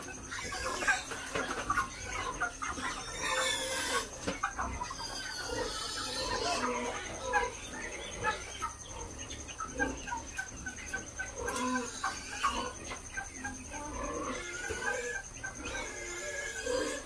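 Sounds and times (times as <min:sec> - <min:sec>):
chickens clucking and peeping: 0:00.0 - 0:17.0.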